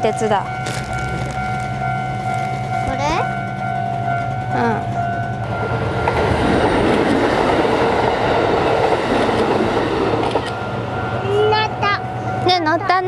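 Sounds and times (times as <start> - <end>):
steady tone: 0.0 - 12.5
train wheels rumbling on rails: 0.0 - 13.0.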